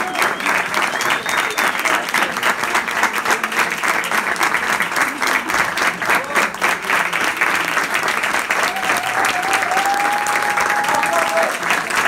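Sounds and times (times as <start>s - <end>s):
close hands clapping: 0.0s - 12.0s
crowd clapping: 0.0s - 12.0s.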